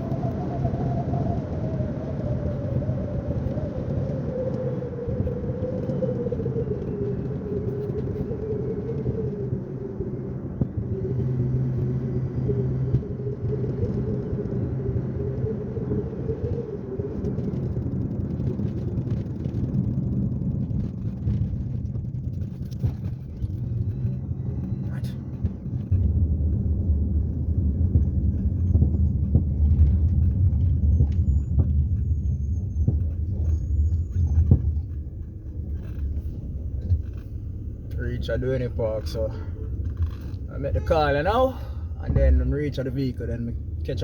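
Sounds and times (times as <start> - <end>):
car engine and road rumble: 0.0 - 44.0
whining tone: 0.0 - 44.0.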